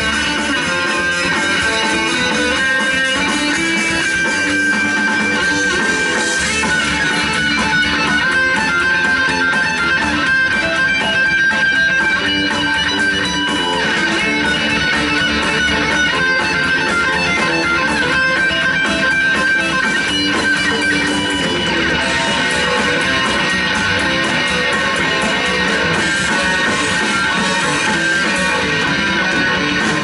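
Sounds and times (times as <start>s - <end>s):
instrumental rock band playing: 0.0s - 30.0s.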